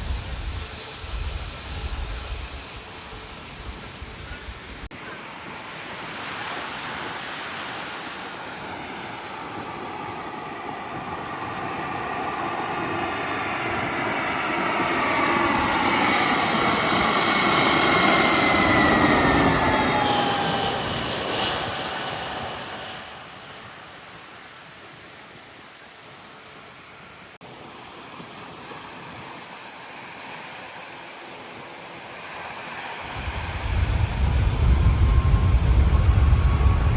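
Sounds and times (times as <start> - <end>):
jet engine whine falling in pitch: 0.0 - 24.5, 27.5 - 36.9
jet engine roar: 0.0 - 25.7, 26.4 - 36.9.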